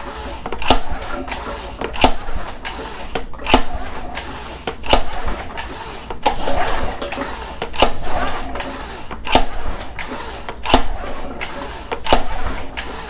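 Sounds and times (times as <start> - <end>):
outboard engine pull cord cranking: 0.0 - 13.0.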